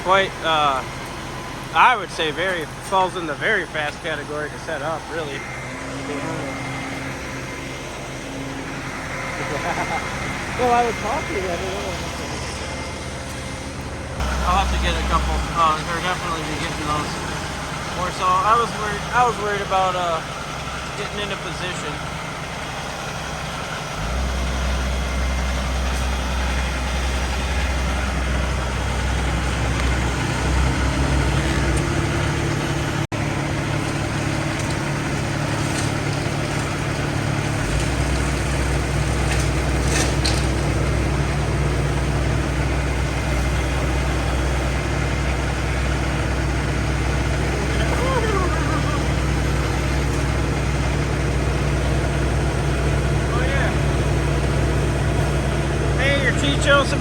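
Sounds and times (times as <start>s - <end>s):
heavy truck engine running: 0.0s - 57.0s.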